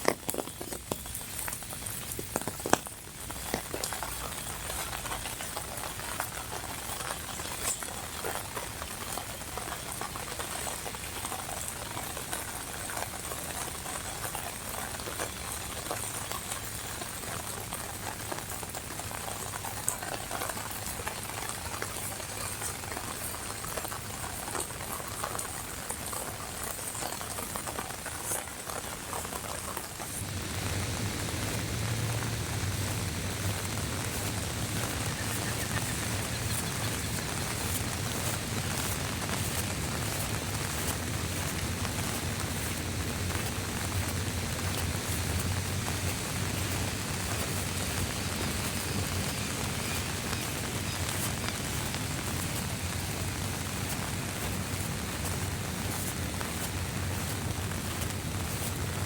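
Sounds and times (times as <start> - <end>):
steady rain pattering: 0.0 - 59.0.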